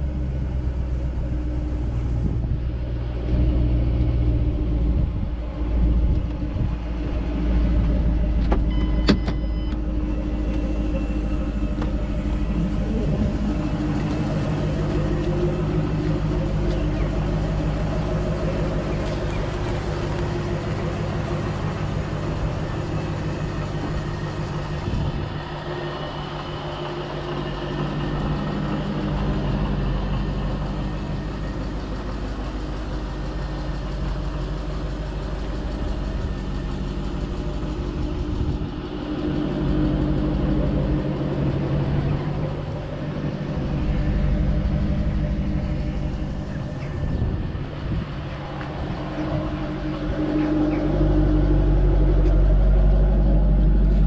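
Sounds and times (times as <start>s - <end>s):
car engine driving: 0.0s - 54.0s.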